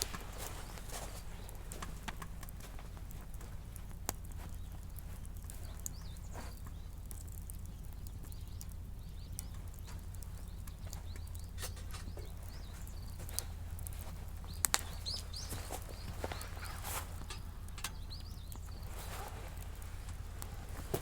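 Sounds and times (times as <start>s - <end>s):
steady low hum: 0.0s - 21.0s
wood fire crackling and popping: 0.0s - 21.0s.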